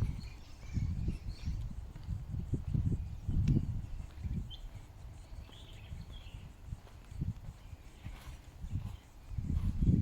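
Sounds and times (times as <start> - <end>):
bird chirp: 0.0 - 10.0.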